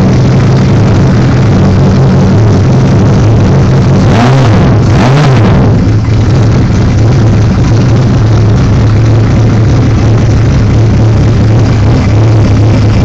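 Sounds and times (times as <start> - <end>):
motorcycle engine idling: 0.0 - 4.0, 5.7 - 13.0.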